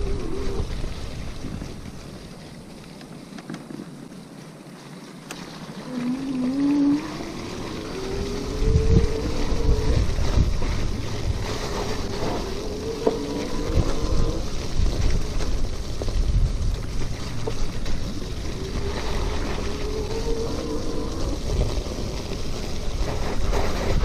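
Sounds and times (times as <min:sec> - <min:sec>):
wind buffeting microphone: 0:00.0 - 0:02.9, 0:05.2 - 0:24.0.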